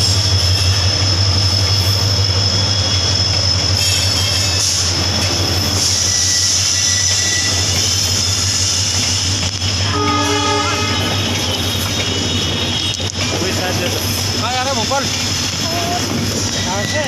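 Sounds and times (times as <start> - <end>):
high whine of wheels on track: 0.0 - 17.0
train rumbling on rails: 0.0 - 17.0.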